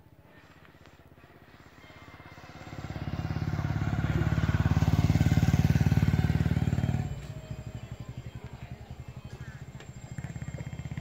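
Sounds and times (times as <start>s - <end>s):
small engine vehicle passing: 0.0s - 11.0s.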